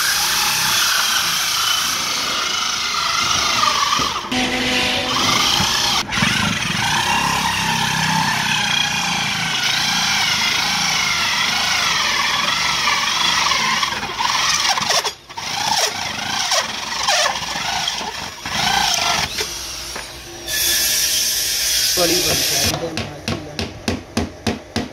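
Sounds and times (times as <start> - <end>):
electric drill cutting wood: 0.0 - 22.7.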